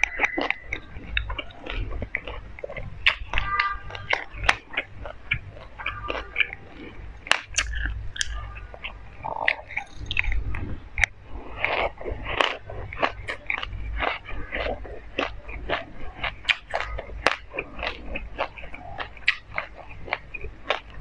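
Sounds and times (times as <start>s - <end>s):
chewing and crunching seeds: 0.0s - 21.0s
mouth clicks: 0.0s - 21.0s.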